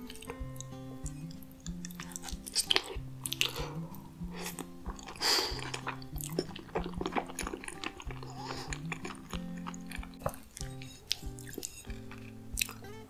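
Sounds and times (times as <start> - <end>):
wet squishy chewing: 0.0 - 12.9
soft background music: 0.0 - 13.0.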